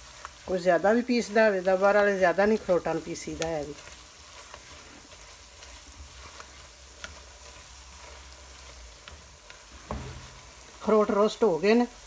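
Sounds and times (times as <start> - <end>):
nuts sizzling in hot oil: 0.0 - 12.0.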